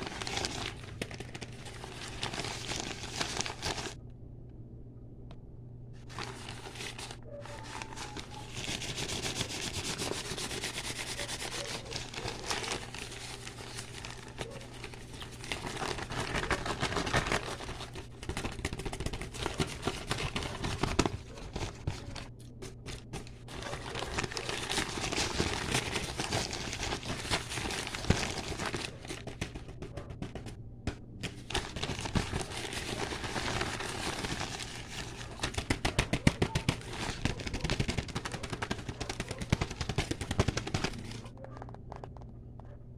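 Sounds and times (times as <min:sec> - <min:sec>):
crinkling and crackling: 0:00.0 - 0:04.1, 0:06.0 - 0:42.9
faint steady low hum: 0:00.0 - 0:42.9.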